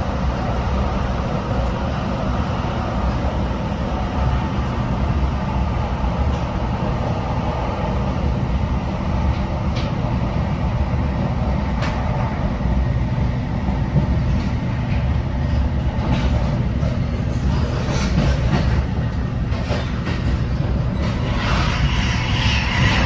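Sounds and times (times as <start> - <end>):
train coach rumble: 0.0 - 23.0.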